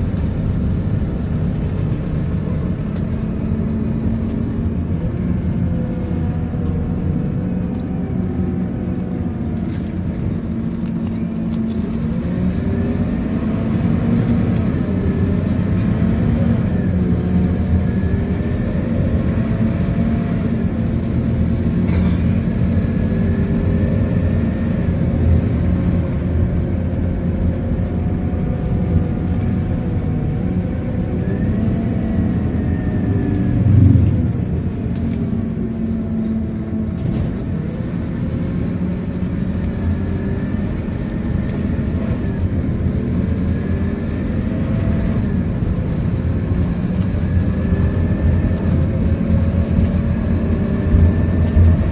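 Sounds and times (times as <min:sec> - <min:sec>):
bus diesel engine and gearbox: 0:00.0 - 0:51.9
road and tyre noise: 0:00.0 - 0:51.9.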